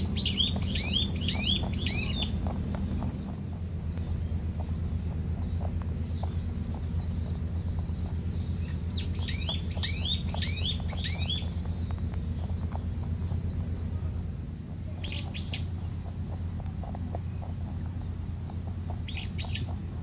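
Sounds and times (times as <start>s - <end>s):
low rumble: 0.0s - 20.0s
rabbit crunching food pellets: 0.0s - 20.0s
songbird chirping: 0.0s - 20.0s.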